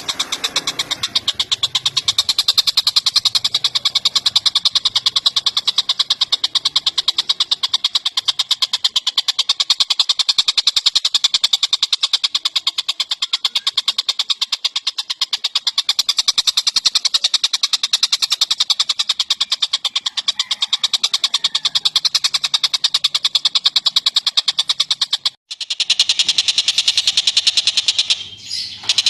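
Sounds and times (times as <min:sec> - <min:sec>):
bird singing rapid high notes: 0:00.0 - 0:29.0.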